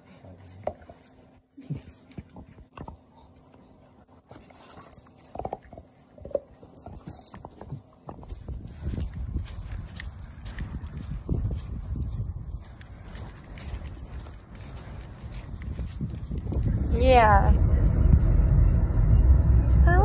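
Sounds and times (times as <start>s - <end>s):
dog gnawing on a chew bone: 0.0s - 16.9s.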